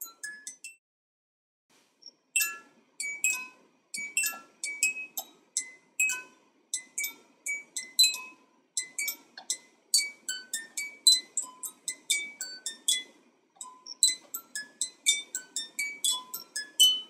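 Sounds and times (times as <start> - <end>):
music box tune: 0.0 - 0.8, 2.4 - 17.0.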